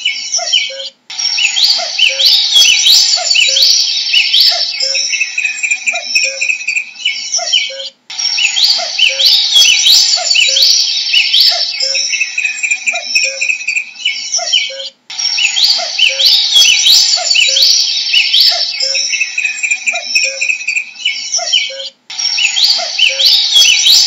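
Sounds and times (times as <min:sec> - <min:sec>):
cuckoo calling: 0:00.0 - 0:24.0
songbirds chirping: 0:00.0 - 0:24.0.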